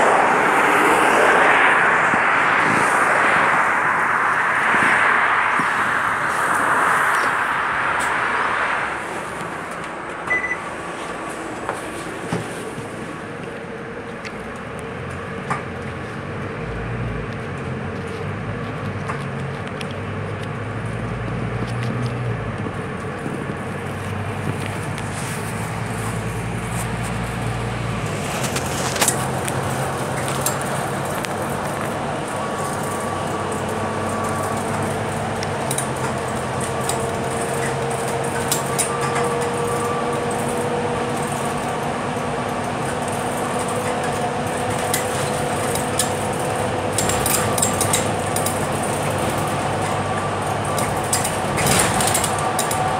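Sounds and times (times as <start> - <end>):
rising whine: 0.0 - 19.0, 20.4 - 51.2
bus engine: 0.0 - 52.9
road noise: 0.0 - 52.9.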